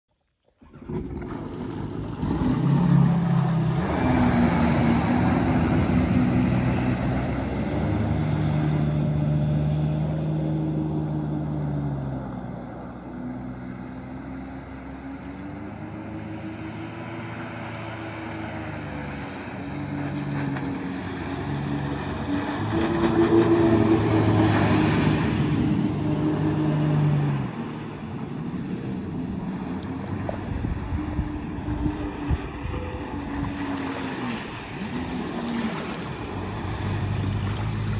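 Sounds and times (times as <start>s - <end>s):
jet ski engine running: 0.6s - 37.9s.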